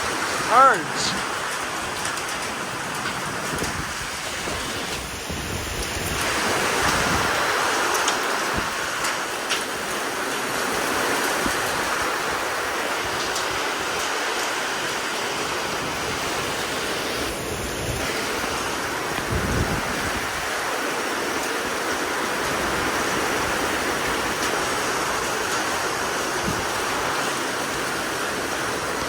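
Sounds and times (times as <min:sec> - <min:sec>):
heavy rain and strong wind: 0:00.0 - 0:29.0.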